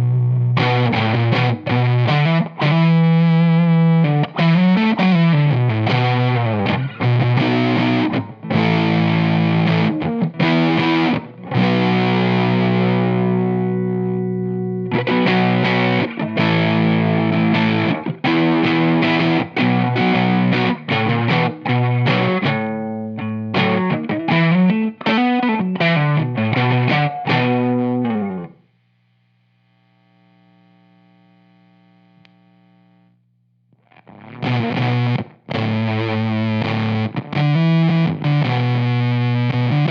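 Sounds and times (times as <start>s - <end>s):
fuzzed electric guitar riffs: 0.0s - 28.7s, 33.7s - 39.9s.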